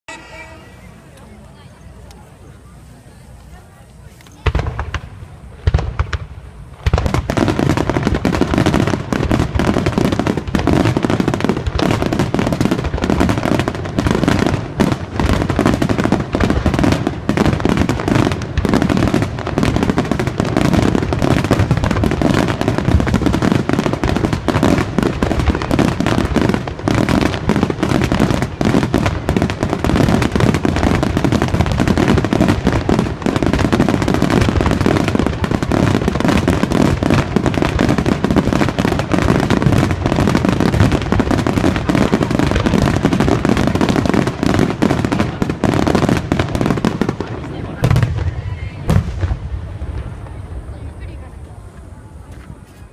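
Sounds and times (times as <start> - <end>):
fireworks bangs and crackles: 0.1 - 52.9.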